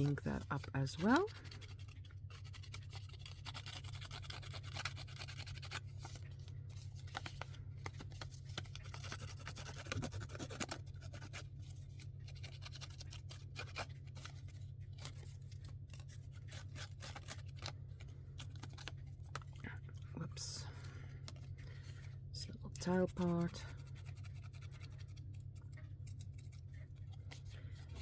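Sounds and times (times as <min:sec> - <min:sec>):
low steady hum: 0:00.0 - 0:28.0
scratching and rubbing on paper: 0:00.0 - 0:28.0.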